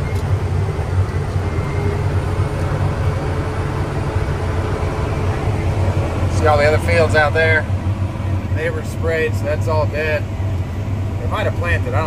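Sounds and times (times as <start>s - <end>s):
engine low drone: 0.0s - 12.0s.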